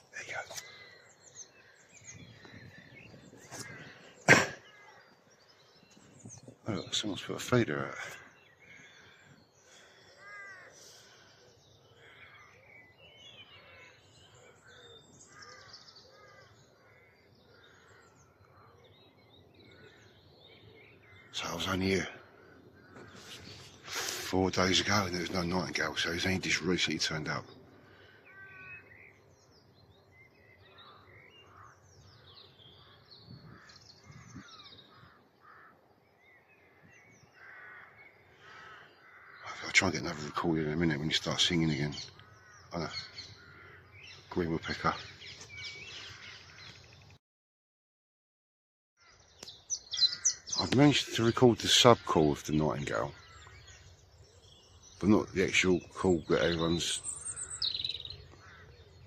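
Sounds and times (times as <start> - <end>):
bird repeated calls: 0.0 - 47.2, 49.0 - 59.0
small birds twittering: 0.0 - 47.2, 49.0 - 59.0
songbirds singing: 0.0 - 47.2, 49.0 - 59.0.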